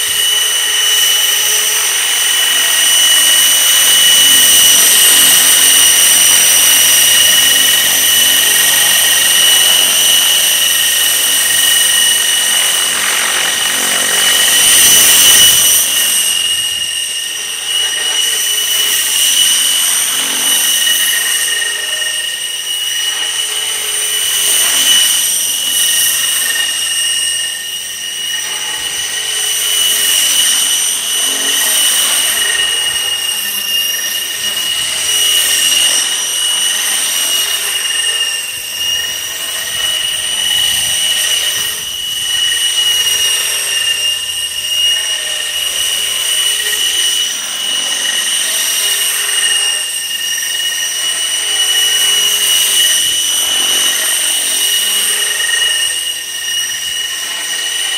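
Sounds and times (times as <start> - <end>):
rc helicopter whine: 0.0 - 57.9.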